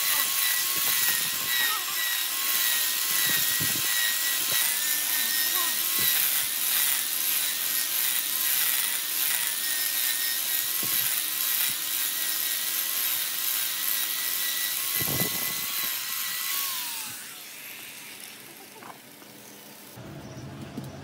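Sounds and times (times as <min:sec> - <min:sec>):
angle grinder grinding wood: 0:00.0 - 0:20.0.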